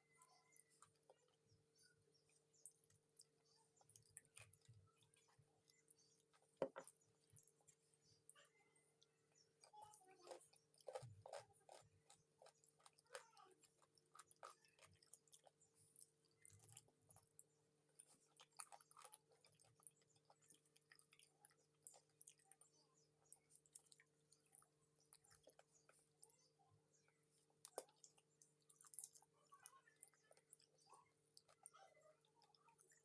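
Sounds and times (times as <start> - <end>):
chewing and crunching: 0.0 - 33.0.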